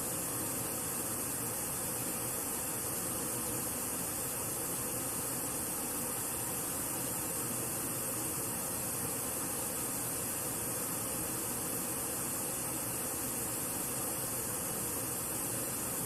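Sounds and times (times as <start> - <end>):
pink noise hiss from speaker: 0.0 - 16.0.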